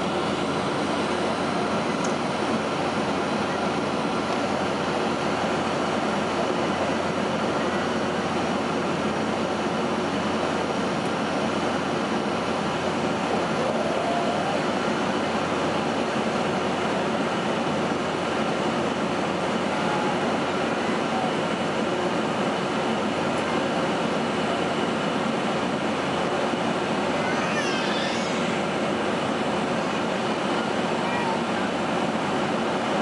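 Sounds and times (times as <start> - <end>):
airplane cabin engine drone: 0.0 - 33.0.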